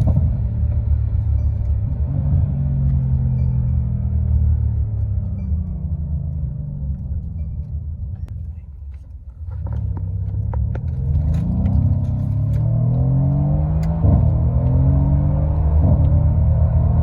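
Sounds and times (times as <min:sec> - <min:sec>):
car exhaust revving: 0:00.0 - 0:08.3, 0:09.6 - 0:17.0.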